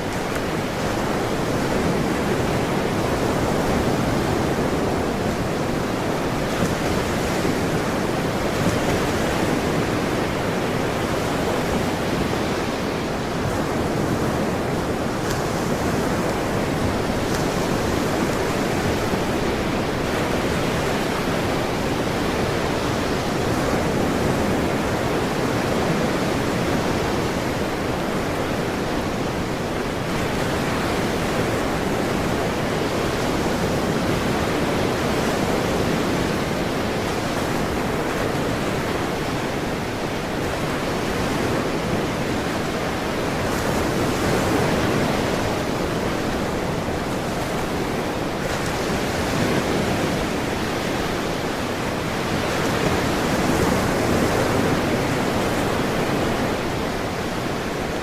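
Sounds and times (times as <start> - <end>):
ocean waves rushing: 0.0 - 58.0.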